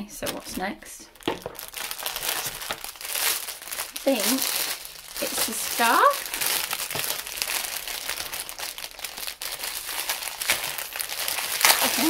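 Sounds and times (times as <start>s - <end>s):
plastic bag crinkling: 0.2s - 12.0s.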